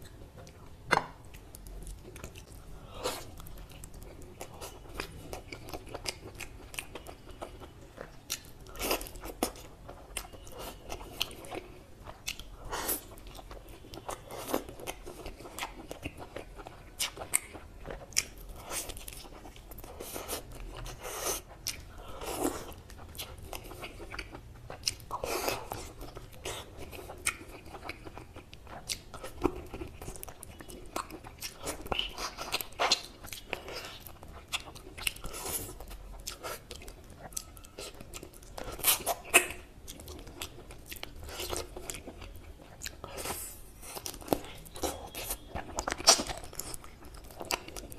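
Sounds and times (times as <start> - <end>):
man biting and chewing meat: 8.0 - 47.9.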